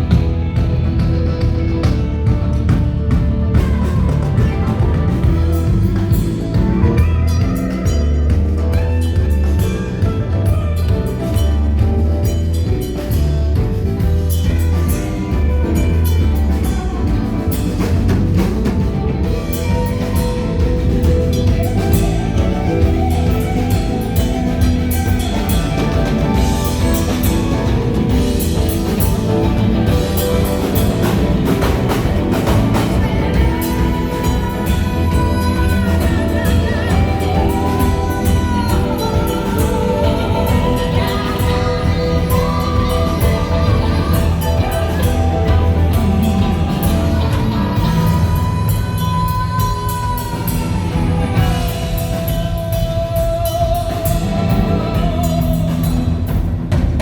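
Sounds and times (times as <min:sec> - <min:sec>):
drum kit hits: 0:00.0 - 0:49.6
guitar: 0:00.0 - 0:57.0
rock band playing live: 0:00.0 - 0:57.0.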